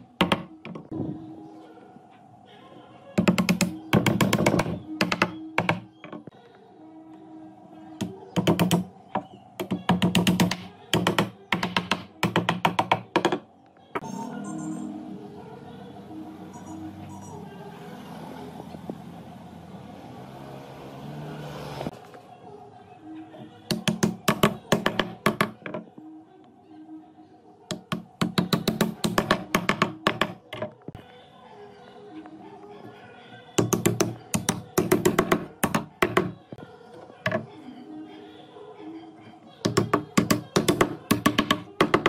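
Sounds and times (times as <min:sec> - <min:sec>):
background music: 0:00.0 - 0:42.0.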